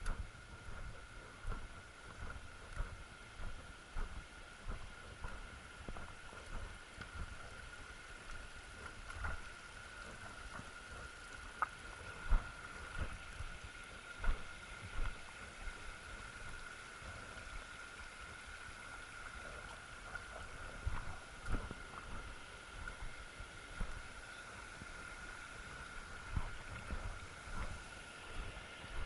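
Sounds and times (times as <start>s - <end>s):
footsteps on a trail: 0.0s - 16.7s, 19.2s - 29.0s
mountain stream rushing: 0.0s - 29.0s.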